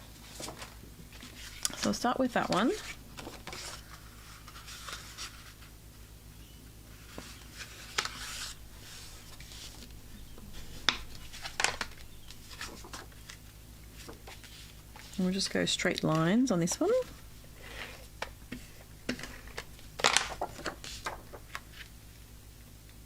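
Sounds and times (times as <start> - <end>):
low steady hum: 0.0 - 23.0
paper rustling: 0.1 - 5.7, 6.9 - 22.0.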